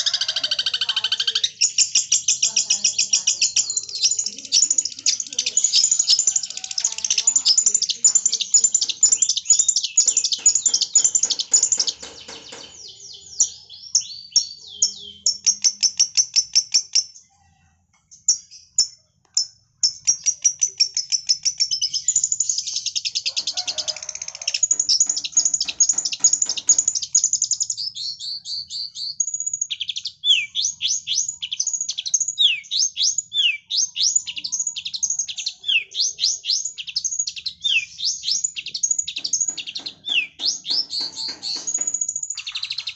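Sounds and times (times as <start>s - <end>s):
bird singing high chirps and trills: 0.0s - 42.9s.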